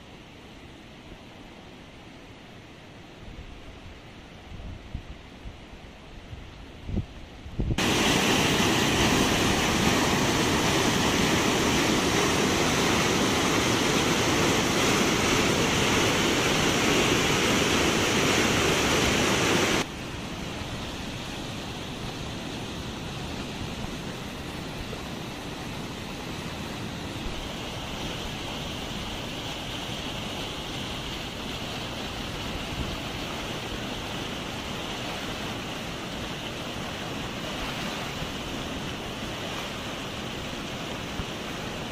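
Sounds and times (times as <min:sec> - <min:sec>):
floodwater rushing: 0:07.8 - 0:41.9.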